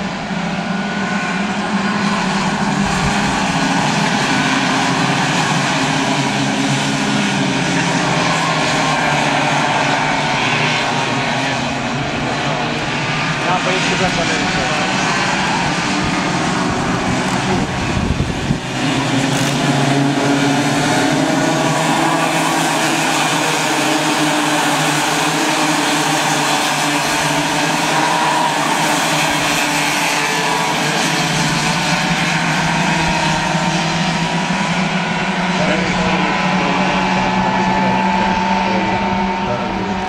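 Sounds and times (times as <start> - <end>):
racing kart engines droning: 0.0 - 40.0.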